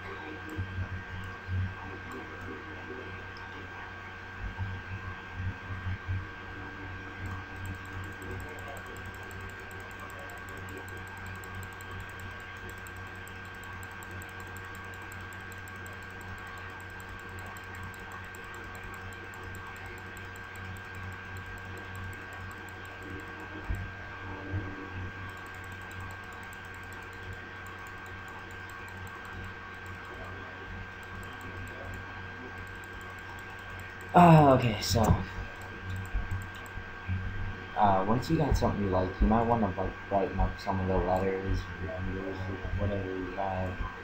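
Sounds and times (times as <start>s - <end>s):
electrical hum and hiss: 0.0s - 44.0s.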